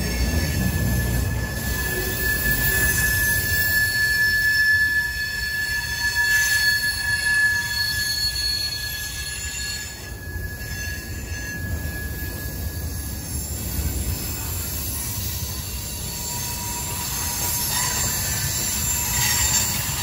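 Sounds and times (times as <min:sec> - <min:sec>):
low train rumble: 0:00.0 - 0:20.0
train wheels squealing: 0:00.0 - 0:20.0.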